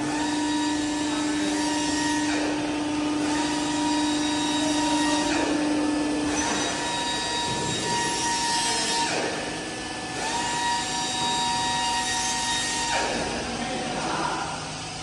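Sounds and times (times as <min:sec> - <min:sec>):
electric motor and pump whine: 0:00.0 - 0:15.0.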